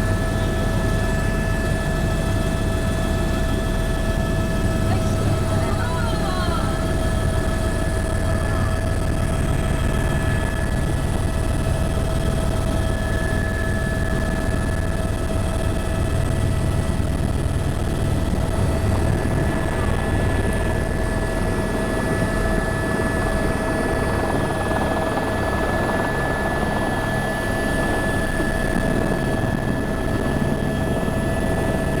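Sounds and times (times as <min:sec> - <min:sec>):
helicopter rotor rumble: 0:00.0 - 0:32.0
helicopter whining tones: 0:00.1 - 0:31.9.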